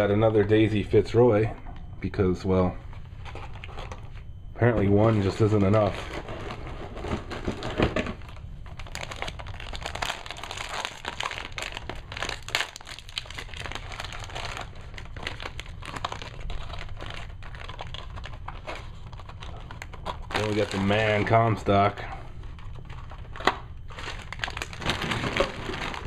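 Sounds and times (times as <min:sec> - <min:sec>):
foil pack crinkling: 0:05.0 - 0:26.0.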